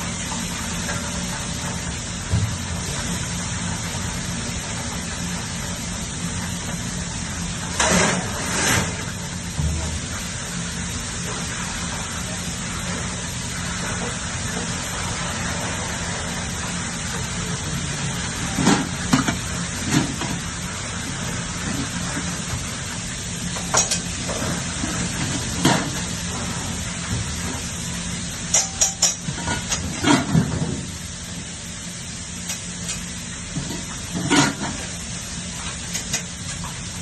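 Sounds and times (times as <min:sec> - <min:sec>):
food sizzling in a frying pan: 0:00.0 - 0:37.0.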